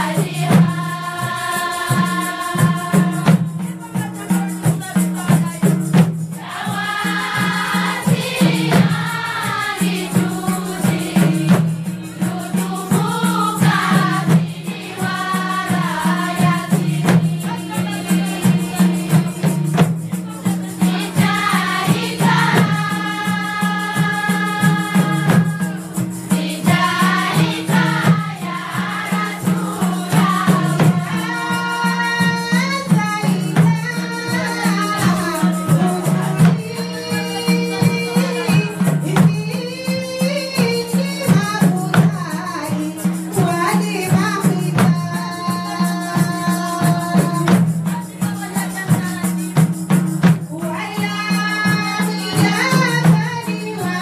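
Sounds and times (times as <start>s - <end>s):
women's chorus singing in unison: 0.0s - 49.7s, 50.5s - 54.0s
steady percussion beat: 0.0s - 54.0s.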